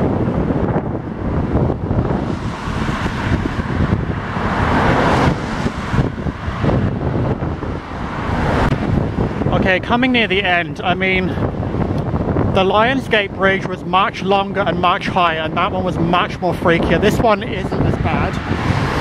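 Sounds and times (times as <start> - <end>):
car traffic: 0.0 - 19.0
wind buffeting microphone: 0.0 - 19.0.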